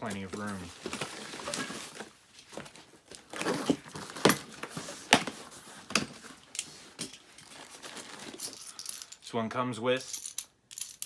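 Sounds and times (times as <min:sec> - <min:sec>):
packaging rustling: 0:00.0 - 0:09.0.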